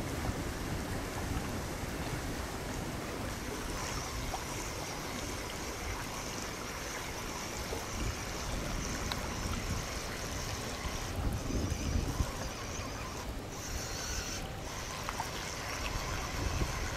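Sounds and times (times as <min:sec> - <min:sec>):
wind noise on microphone: 0:00.0 - 0:16.9.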